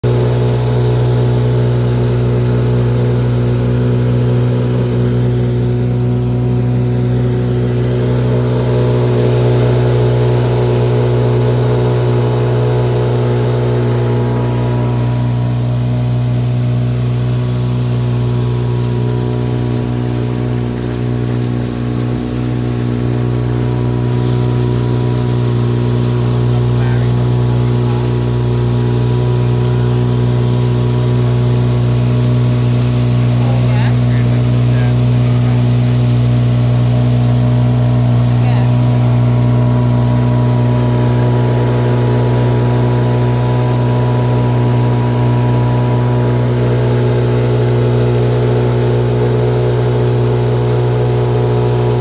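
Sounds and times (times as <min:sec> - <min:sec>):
boat motor humming: 0:00.0 - 0:52.0.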